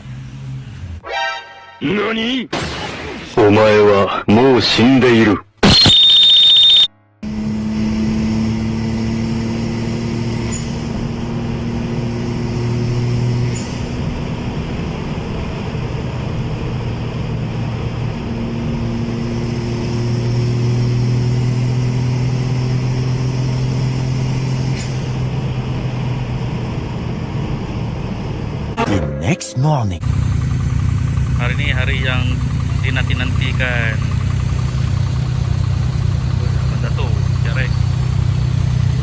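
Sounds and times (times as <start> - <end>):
car engine drone: 0.0 - 1.0, 5.8 - 28.8, 30.0 - 39.0
road noise: 0.0 - 1.0, 7.2 - 28.8, 30.0 - 39.0.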